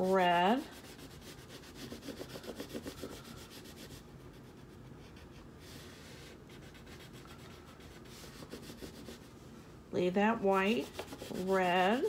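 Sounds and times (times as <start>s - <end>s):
crayon scratching on paper: 0.0s - 9.3s, 10.6s - 12.0s.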